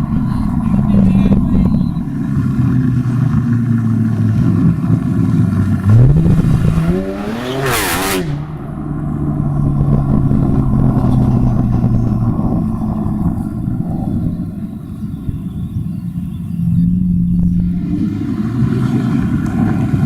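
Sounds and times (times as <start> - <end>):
car accelerating past: 0.0 - 20.0
car engine idling and revving: 0.0 - 20.0.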